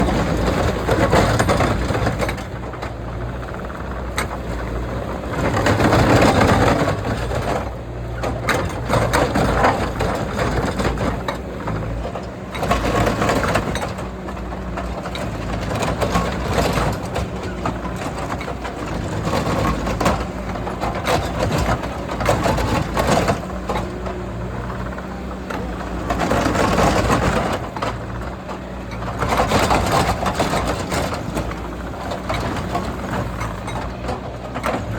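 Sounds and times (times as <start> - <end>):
skid steer engine running: 0.0 - 34.9.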